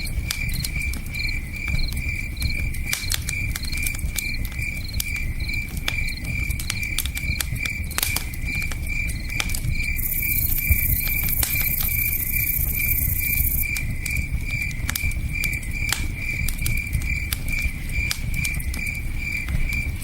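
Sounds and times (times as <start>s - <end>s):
campfire crackling: 0.0s - 20.0s
crickets chirping: 0.0s - 20.0s.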